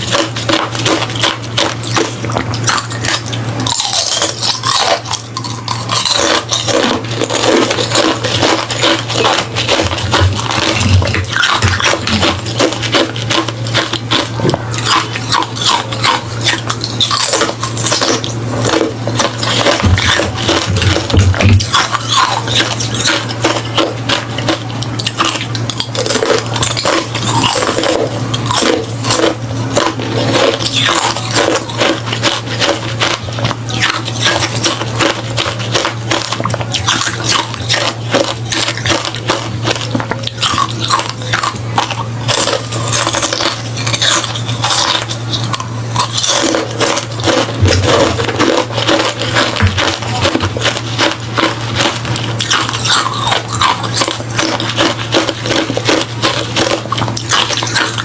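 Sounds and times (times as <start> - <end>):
chewing crunchy ice: 0.0 - 58.0
steady low hum: 0.0 - 58.0.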